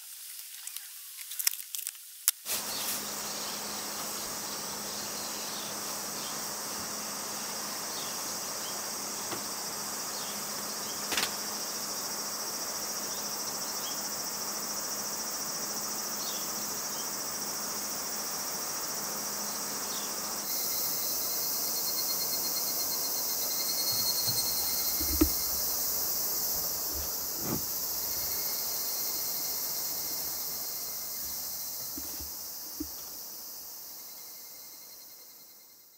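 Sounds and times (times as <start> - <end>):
crickets and insects trilling: 0.0 - 35.9.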